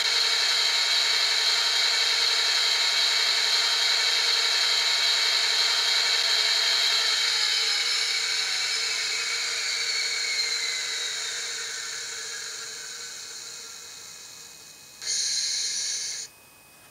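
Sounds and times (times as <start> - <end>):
diesel engine shutting down: 0.0 - 16.2.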